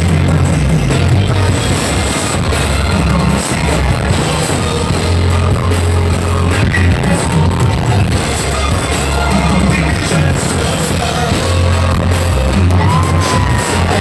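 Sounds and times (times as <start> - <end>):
heavy bass line: 0.0 - 14.0
live band music: 0.0 - 14.0.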